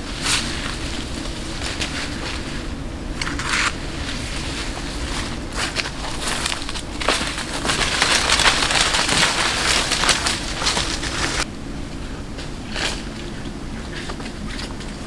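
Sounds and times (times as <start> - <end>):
footsteps crunching dry leaves: 0.0 - 15.0
leafy branches rustling: 0.0 - 15.0.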